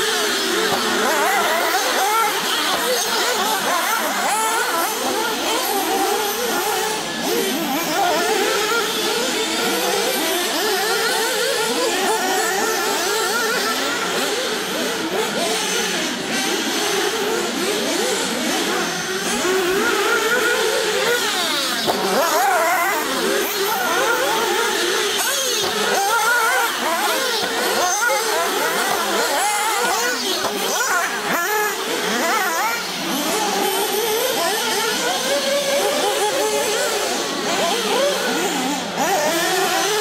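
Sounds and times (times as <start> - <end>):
rc car engines revving: 0.0 - 40.0.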